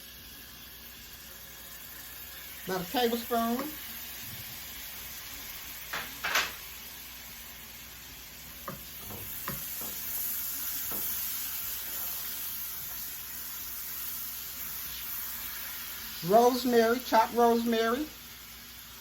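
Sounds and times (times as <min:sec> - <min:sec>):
onions sizzling in frying pan: 0:00.0 - 0:19.0.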